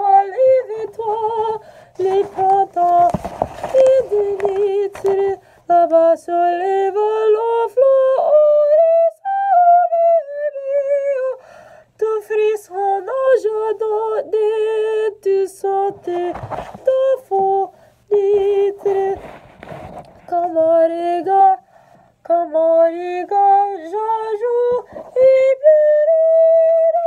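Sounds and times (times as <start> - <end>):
woman singing a cappella: 0.0 - 19.4, 20.2 - 27.0.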